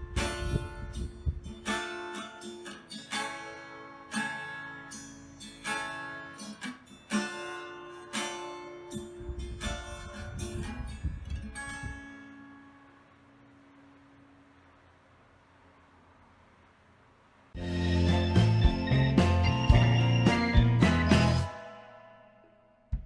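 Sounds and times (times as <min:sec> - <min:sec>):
acoustic guitar chords: 0:00.0 - 0:14.7, 0:17.6 - 0:23.0.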